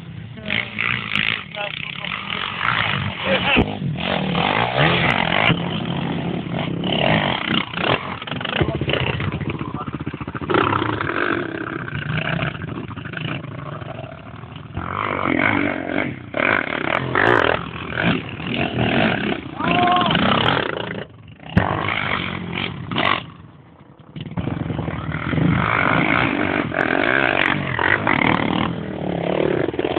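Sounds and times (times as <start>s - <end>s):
quad bike engines revving: 0.0s - 29.9s.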